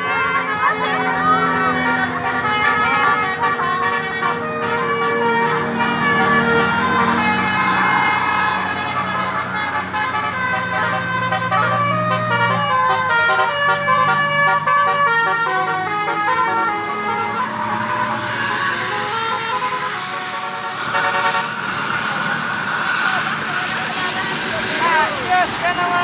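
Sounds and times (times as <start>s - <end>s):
musical air horn tune: 0.0s - 26.0s.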